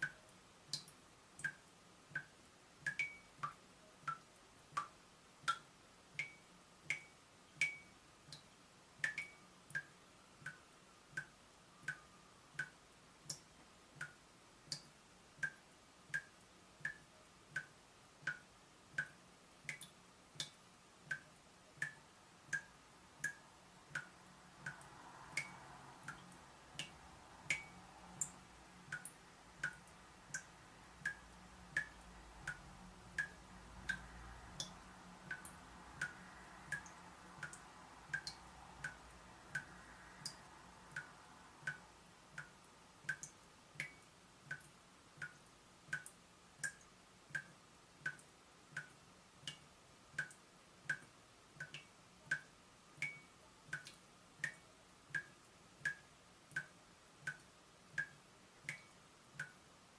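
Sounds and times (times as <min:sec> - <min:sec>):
water dripping plinks: 0:00.0 - 0:59.6
faint low hum: 0:00.0 - 0:59.9.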